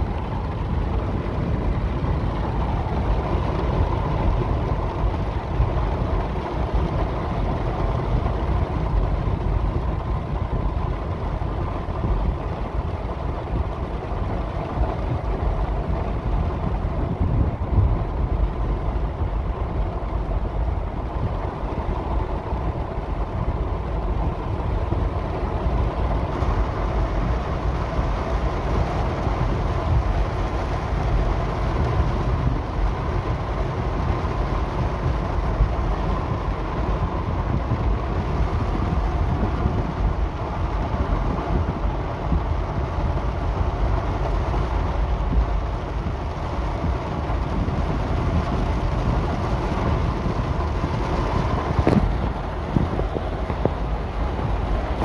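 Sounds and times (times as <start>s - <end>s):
car driving through heavy rain: 0.0s - 55.0s
car engine rumble: 0.0s - 55.0s
wet road noise: 0.0s - 55.0s.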